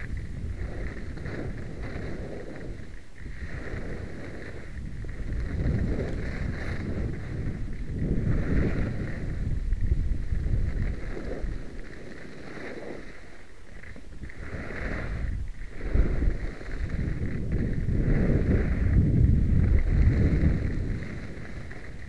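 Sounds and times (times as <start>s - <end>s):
skis scraping over snow: 0.0s - 22.0s
wind buffeting microphone: 0.0s - 22.0s.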